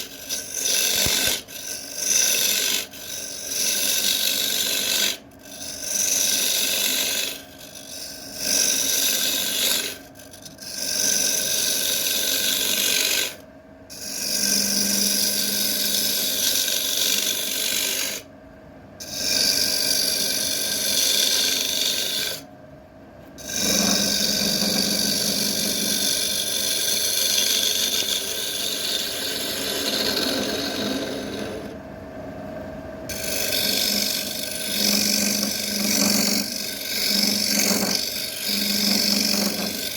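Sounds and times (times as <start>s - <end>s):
wood lathe humming: 0.0s - 18.2s, 19.0s - 22.5s, 23.4s - 31.8s, 33.1s - 39.9s
tool cutting spinning wood: 0.0s - 18.3s, 19.0s - 22.5s, 23.4s - 31.9s, 33.1s - 39.9s.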